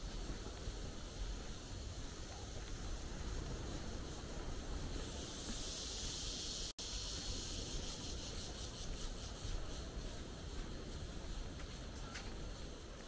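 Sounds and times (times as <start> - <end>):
steady hissing: 0.0 - 13.0.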